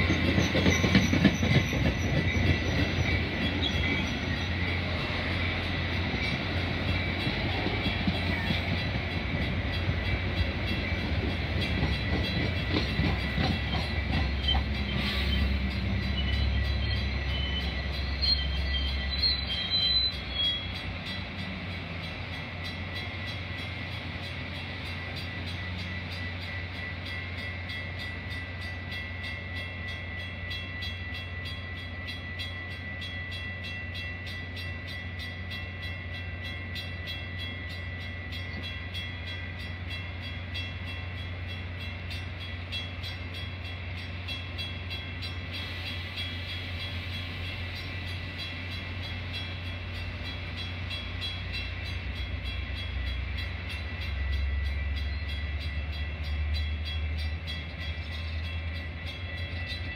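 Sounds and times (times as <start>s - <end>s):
diesel locomotive humming: 0.0s - 59.9s.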